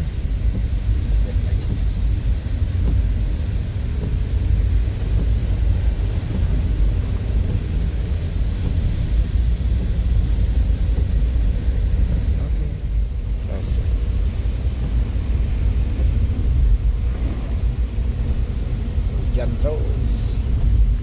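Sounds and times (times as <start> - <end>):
car road and engine rumble: 0.0 - 21.0
hiss of wet road and rain: 0.0 - 21.0.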